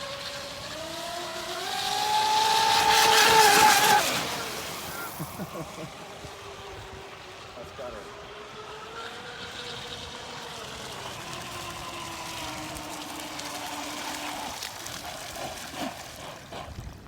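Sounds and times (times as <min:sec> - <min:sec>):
electric motor whining: 0:00.0 - 0:15.4.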